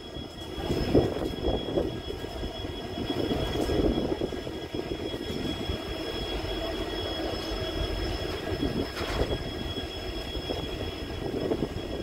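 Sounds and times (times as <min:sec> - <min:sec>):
locomotive engine rumble: 0:00.0 - 0:12.0
thin high whine: 0:00.0 - 0:12.0.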